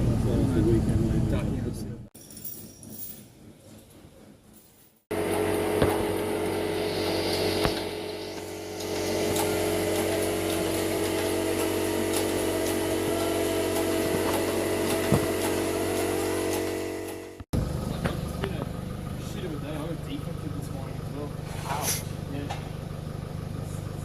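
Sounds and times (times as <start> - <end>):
vehicle engine and road drone: 0.0 - 24.0.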